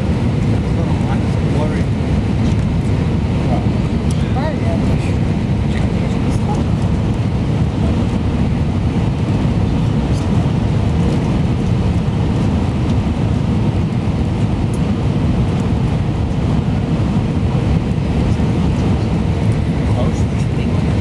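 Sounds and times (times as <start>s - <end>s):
aircraft engines rumbling: 0.0s - 21.0s
rushing air: 0.0s - 21.0s.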